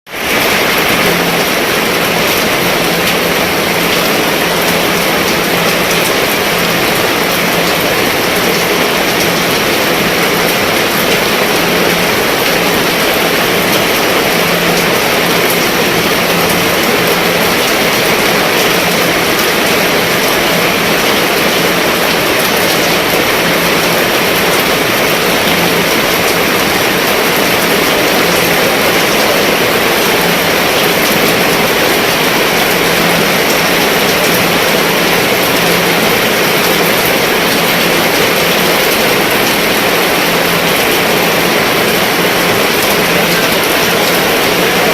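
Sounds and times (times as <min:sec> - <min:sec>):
heavy rain on a roof: 0:00.0 - 0:44.9.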